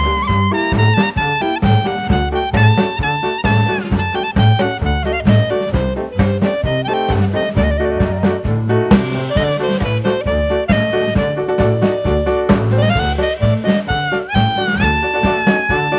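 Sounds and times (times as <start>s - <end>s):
upbeat swing jazz music: 0.0s - 15.9s.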